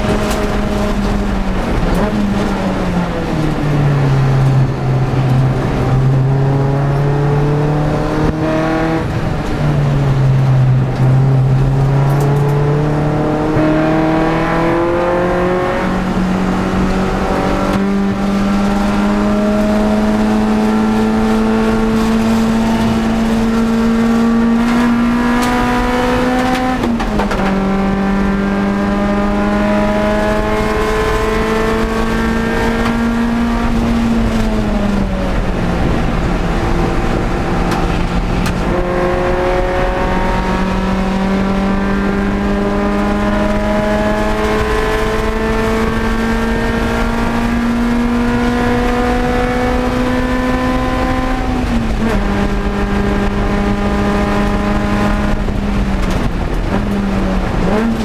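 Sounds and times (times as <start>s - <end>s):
car engine revving high: 0.0s - 58.0s.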